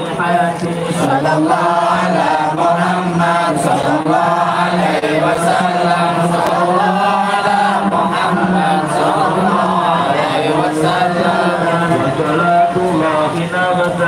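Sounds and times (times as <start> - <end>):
many voices chanting: 0.0 - 14.0.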